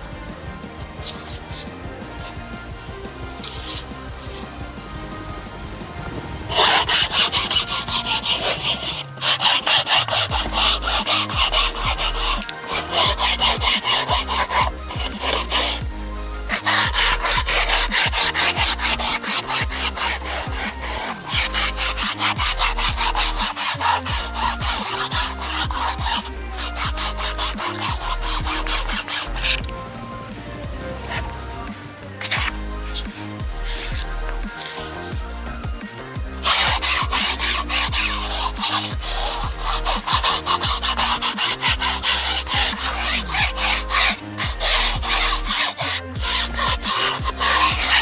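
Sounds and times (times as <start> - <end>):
background music with bass: 0.0 - 48.0
scrubbing car seat upholstery: 0.8 - 48.0.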